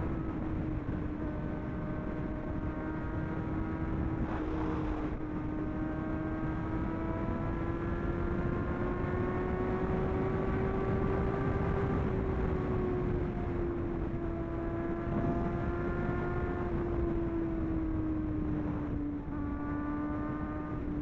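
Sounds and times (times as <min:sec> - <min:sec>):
motorcycle engine at high revs: 0:00.0 - 0:21.0
wind noise on microphone: 0:00.0 - 0:21.0.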